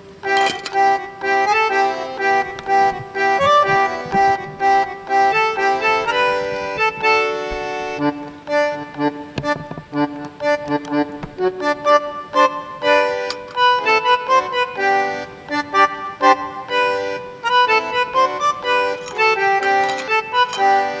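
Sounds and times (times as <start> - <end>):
accordion playing lively melody: 0.0 - 21.0
violin: 0.2 - 21.0.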